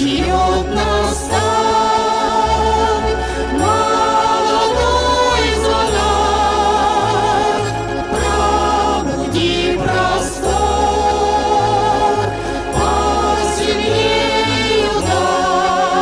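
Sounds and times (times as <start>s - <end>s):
instrumental accompaniment: 0.0s - 16.0s
vocal ensemble singing harmony: 0.0s - 16.0s.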